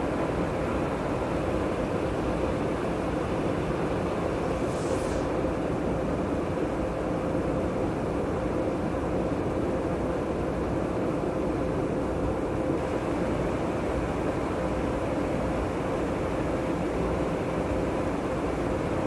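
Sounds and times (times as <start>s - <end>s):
aircraft cabin engine rush: 0.0s - 19.0s
constant hum: 0.0s - 19.0s.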